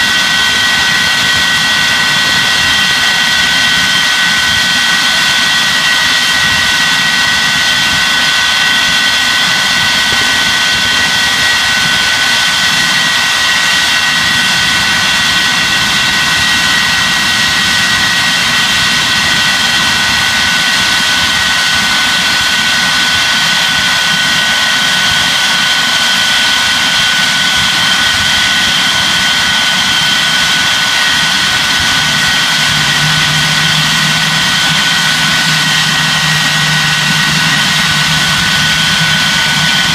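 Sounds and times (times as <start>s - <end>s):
jet engine running: 0.0s - 39.9s
low hum: 0.0s - 39.9s.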